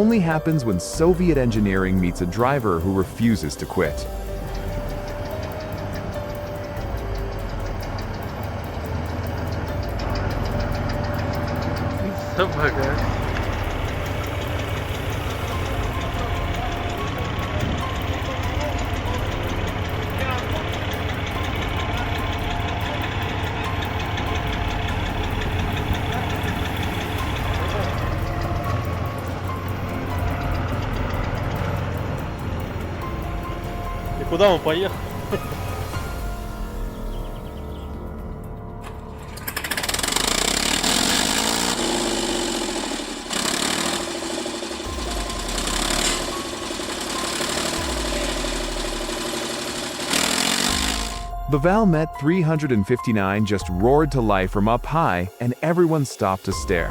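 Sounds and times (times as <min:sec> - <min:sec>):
tractor engine running: 0:00.0 - 0:55.2, 0:56.3 - 0:56.9.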